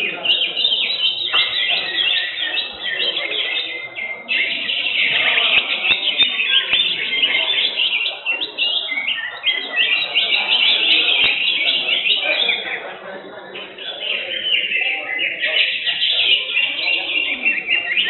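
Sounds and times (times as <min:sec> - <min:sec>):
birds chirping and whistling: 0:00.0 - 0:18.0.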